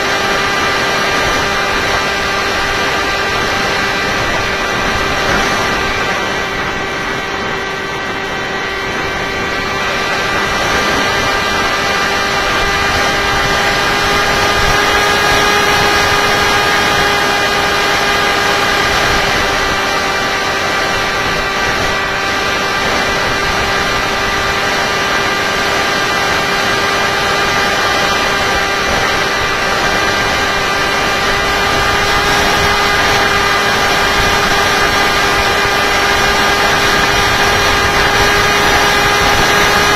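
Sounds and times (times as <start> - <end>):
electric motor whine: 0.0 - 39.9
rush of air: 0.0 - 39.9.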